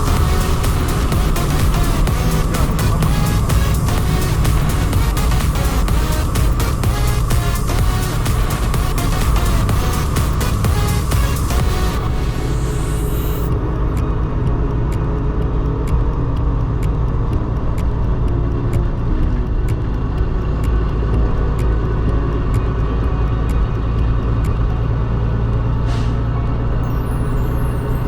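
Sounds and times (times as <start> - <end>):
light regular ticking: 0.0 - 25.8
truck engine rumbling: 0.0 - 28.0.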